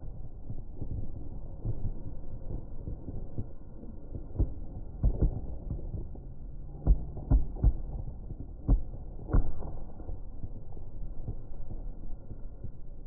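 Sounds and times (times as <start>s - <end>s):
distant fireworks booms: 0.0s - 12.7s
low background rumble: 0.0s - 13.0s.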